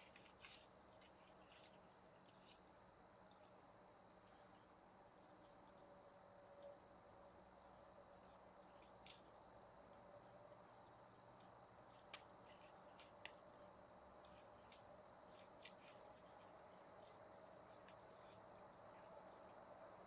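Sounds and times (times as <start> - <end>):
faint high-pitched whine: 0.0 - 20.0.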